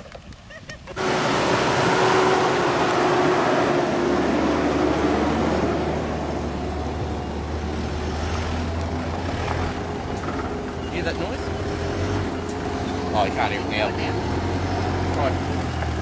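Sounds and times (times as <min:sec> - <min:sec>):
vehicle engine low hum: 0:00.1 - 0:16.0
vehicle driving past on dirt track: 0:01.0 - 0:16.0.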